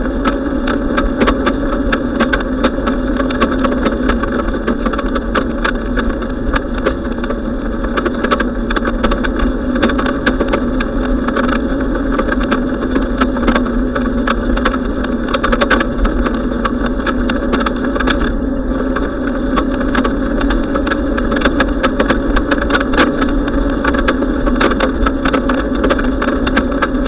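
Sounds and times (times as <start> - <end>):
bicycle wind and tyre hum: 0.0 - 27.0
quick clicks and rattles: 0.0 - 27.0.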